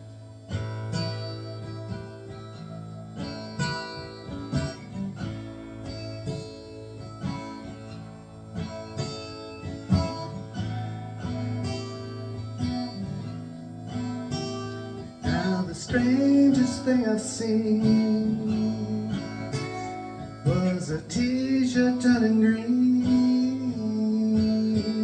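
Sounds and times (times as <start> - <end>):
acoustic guitar plucked notes: 0.0 - 25.0.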